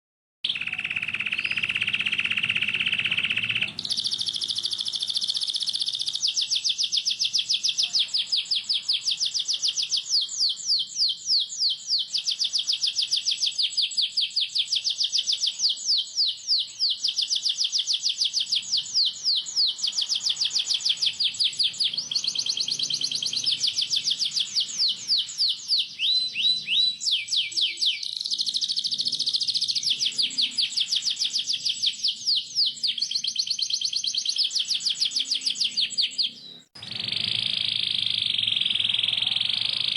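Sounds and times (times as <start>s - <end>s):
canary singing trills: 0.4s - 39.9s.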